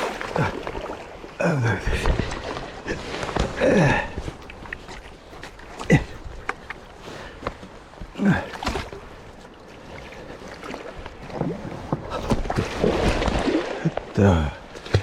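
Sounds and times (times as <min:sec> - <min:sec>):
paddle splashing in water: 0:00.0 - 0:15.0
river current running: 0:00.0 - 0:15.0.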